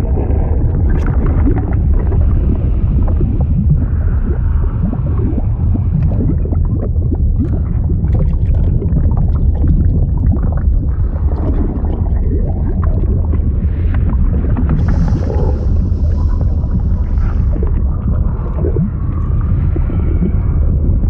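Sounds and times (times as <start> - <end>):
liquid bubbling and gurgling: 0.0 - 21.0.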